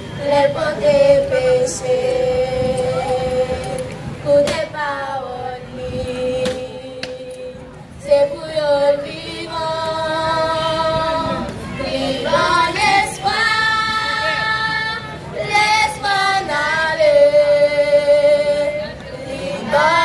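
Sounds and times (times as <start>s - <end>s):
girls singing over pa system: 0.0s - 20.0s.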